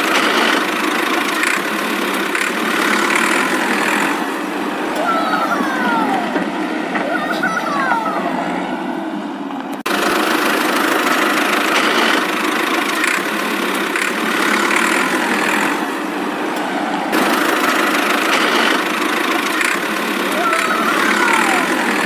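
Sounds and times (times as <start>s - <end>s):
engine-like running noise: 0.0s - 22.0s.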